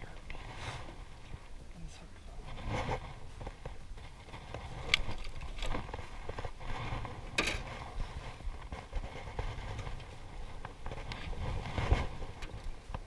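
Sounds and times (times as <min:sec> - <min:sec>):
steady low rumble: 0:00.0 - 0:13.0
clicks and knocks of fishing gear: 0:02.4 - 0:13.0.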